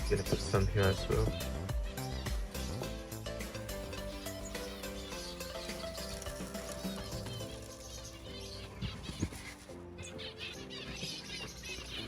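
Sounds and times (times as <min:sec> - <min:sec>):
background music: 0:00.0 - 0:12.0
small birds chirping: 0:00.0 - 0:12.0.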